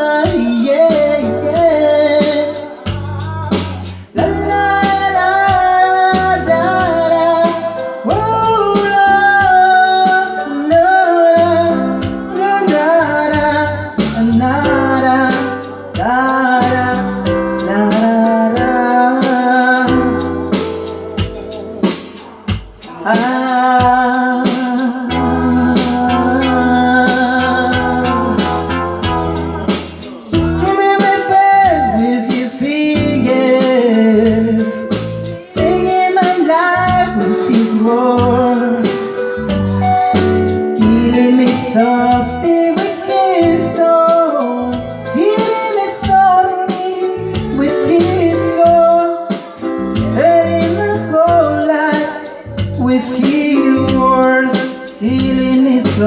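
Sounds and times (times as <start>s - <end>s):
bass: 0.0s - 21.6s, 25.1s - 49.0s, 49.6s - 56.0s
keyboard chords: 0.0s - 56.0s.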